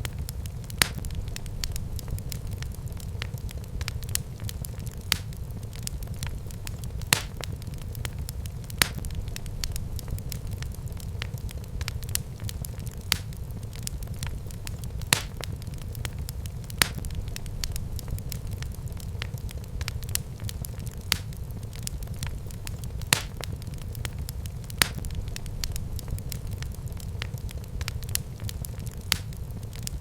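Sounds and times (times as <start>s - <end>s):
fire crackling: 0.0s - 30.0s
sharp pops of burning wood: 0.0s - 30.0s
wood fire flames rumbling: 0.0s - 30.0s.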